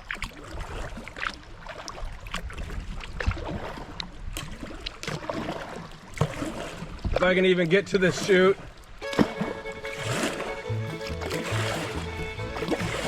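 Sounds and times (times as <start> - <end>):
moving river water: 0.0 - 13.0
paddle strokes splashing: 0.0 - 13.0.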